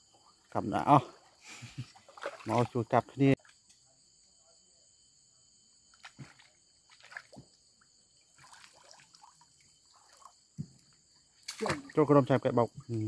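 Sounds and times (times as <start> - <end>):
night insects chirring: 0.0 - 13.0
small water splashes and drips: 0.2 - 3.8, 5.9 - 13.0.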